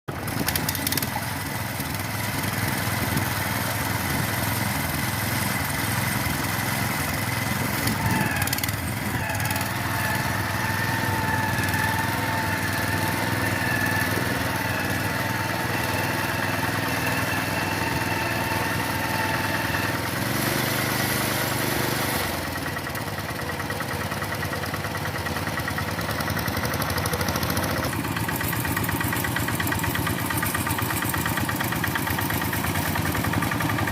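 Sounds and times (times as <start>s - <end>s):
hand tractor engines running: 0.1s - 33.9s.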